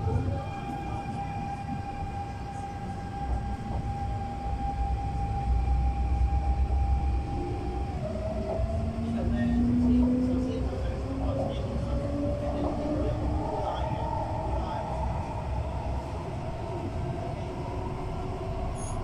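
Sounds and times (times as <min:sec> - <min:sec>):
electric train motor whine: 0:00.0 - 0:17.2.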